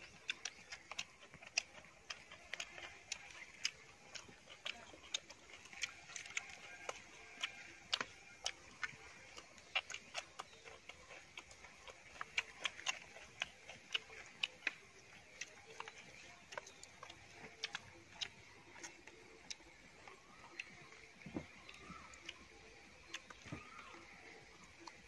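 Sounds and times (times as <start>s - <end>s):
chewing crunches and clicks: 0.0s - 25.0s.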